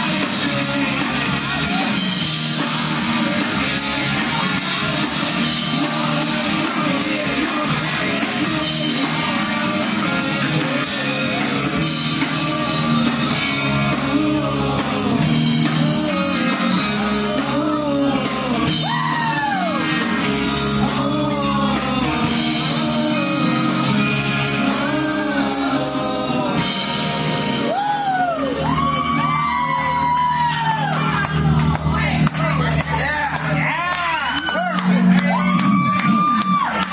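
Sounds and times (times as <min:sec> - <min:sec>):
rock band playing live: 0:00.0 - 0:36.9.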